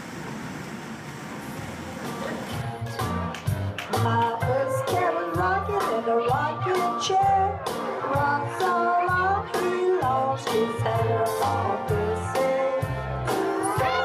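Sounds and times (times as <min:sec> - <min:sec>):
song with instrumental backing: 0:02.0 - 0:14.0.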